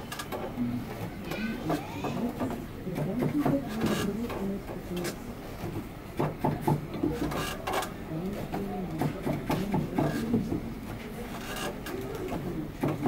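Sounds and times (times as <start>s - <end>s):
loom clicks and taps: 0.0s - 13.0s
people talking: 0.6s - 5.8s, 6.4s - 13.0s.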